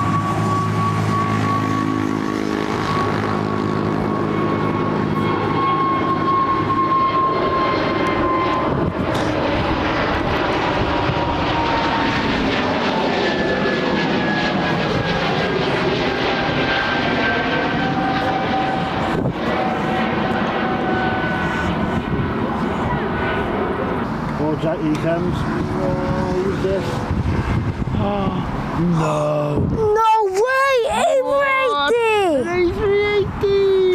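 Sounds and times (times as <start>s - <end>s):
jet airliner passing overhead: 0.0s - 29.8s, 30.4s - 33.9s.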